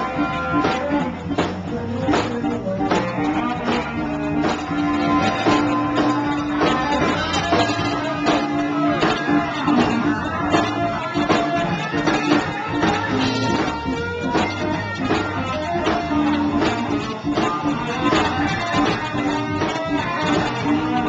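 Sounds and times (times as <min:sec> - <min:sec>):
bass guitar: 0:00.0 - 0:21.0
drum kit steady beat: 0:00.0 - 0:21.0
electric guitar: 0:00.0 - 0:21.0.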